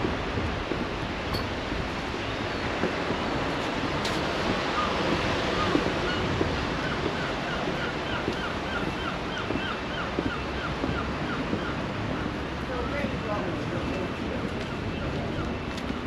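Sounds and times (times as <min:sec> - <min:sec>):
sea waves washing on shore: 0:00.0 - 0:16.0
wind on microphone: 0:00.0 - 0:16.0.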